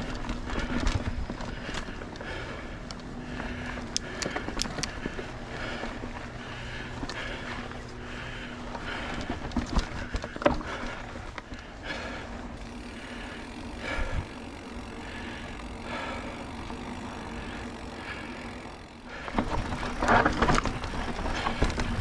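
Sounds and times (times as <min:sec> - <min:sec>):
bike rattling: 0:00.0 - 0:22.0
tyre and trail noise: 0:00.0 - 0:22.0.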